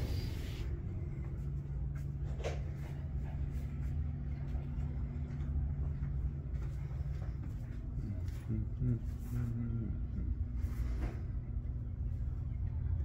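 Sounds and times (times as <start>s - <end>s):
held low tones: 0.0s - 13.0s
low mechanical hum: 0.0s - 13.0s.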